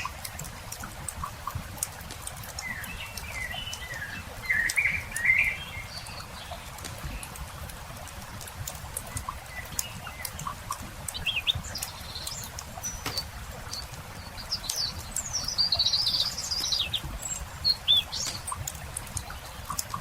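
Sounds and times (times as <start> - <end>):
campfire crackling and popping: 0.0 - 20.0
songbird singing: 2.3 - 7.8, 8.9 - 20.0.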